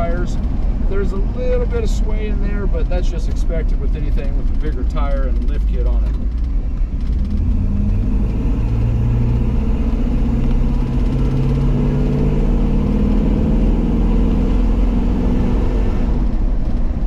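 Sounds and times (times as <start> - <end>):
low road rumble: 0.0 - 17.0.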